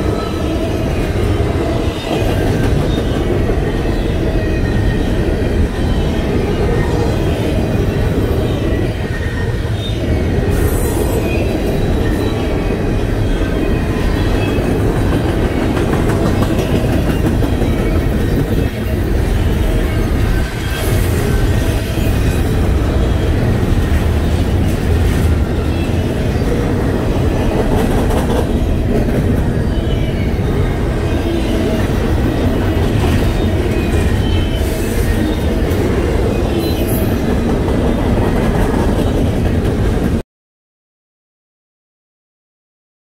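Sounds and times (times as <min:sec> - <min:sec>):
train wheels rumbling on rail: 0:00.0 - 0:40.2.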